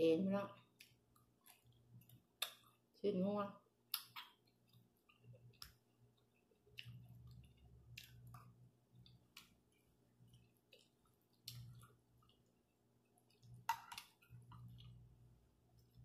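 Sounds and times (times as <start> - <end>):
quiet chewing: 0.6 - 2.9, 3.9 - 16.0.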